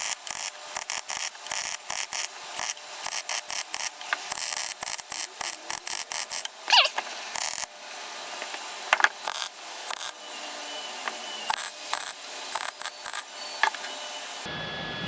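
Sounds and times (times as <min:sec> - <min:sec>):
mig welder crackling bursts: 0:00.0 - 0:14.5.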